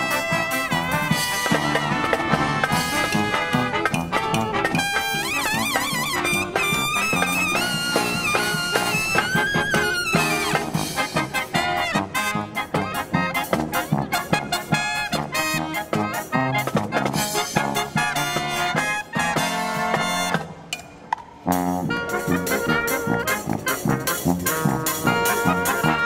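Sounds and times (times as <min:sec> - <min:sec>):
brass marching band playing: 0:00.0 - 0:26.0.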